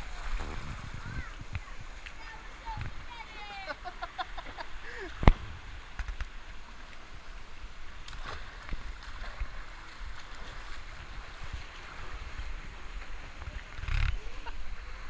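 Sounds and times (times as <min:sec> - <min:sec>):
pool water sloshing and splashing: 0:00.0 - 0:15.0.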